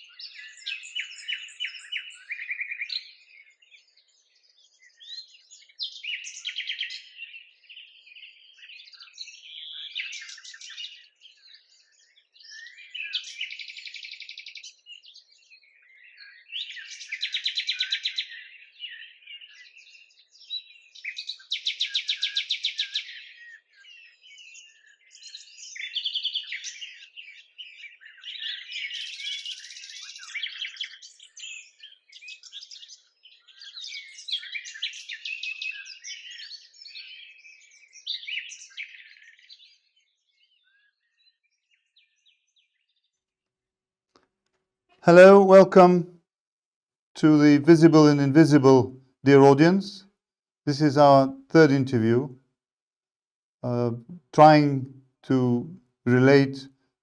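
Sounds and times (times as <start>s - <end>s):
songbirds chirping: 0.0s - 43.2s, 45.2s - 46.1s, 47.2s - 50.0s, 50.7s - 52.3s, 53.7s - 56.7s.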